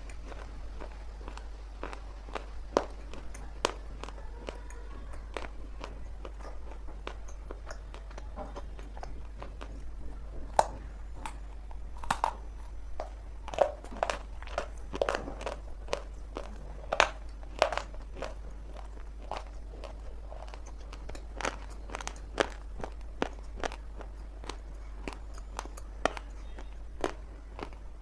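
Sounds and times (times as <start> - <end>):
clay being chewed crunching: 0.0 - 28.0.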